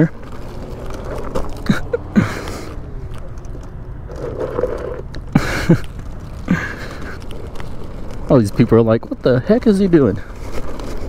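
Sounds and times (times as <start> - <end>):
tyres crunching on loose dirt: 0.0 - 11.0.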